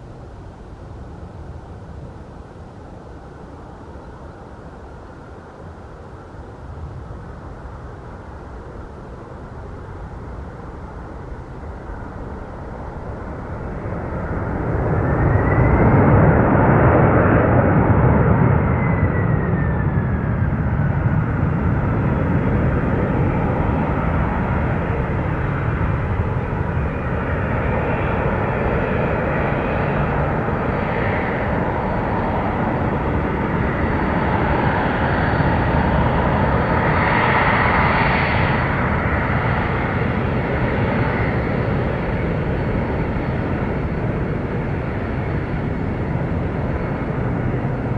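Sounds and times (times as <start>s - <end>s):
jet airliner engines passing: 0.0s - 47.9s.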